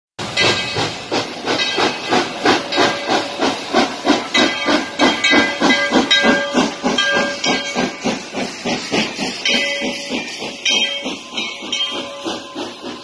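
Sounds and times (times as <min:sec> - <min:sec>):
steam locomotive chuffing: 0:00.2 - 0:13.0.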